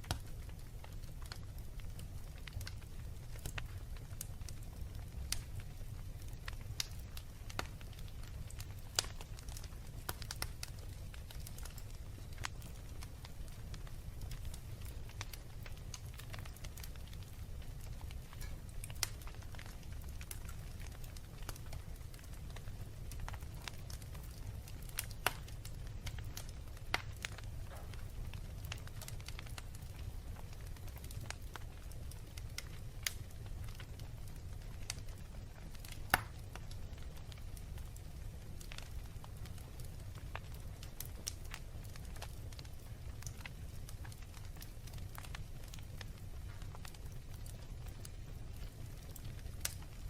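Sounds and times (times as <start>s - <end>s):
low rumble of flames: 0.0s - 50.0s
wood fire crackling and popping: 0.0s - 50.0s.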